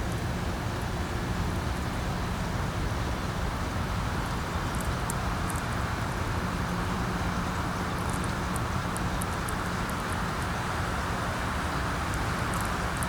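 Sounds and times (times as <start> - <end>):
wind with low rumble: 0.0 - 13.0.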